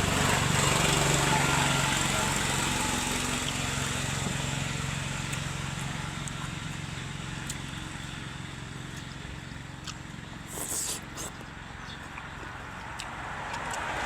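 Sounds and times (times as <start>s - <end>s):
motor engine running: 0.0s - 12.8s.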